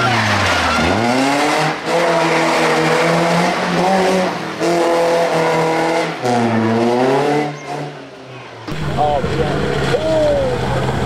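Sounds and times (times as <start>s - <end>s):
rally car engine at high revs: 0.0s - 8.1s, 8.7s - 11.0s.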